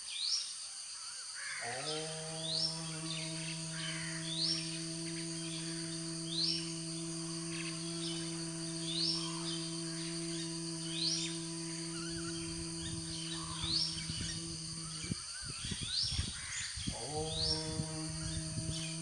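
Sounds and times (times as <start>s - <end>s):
low humming drone: 1.6s - 19.0s.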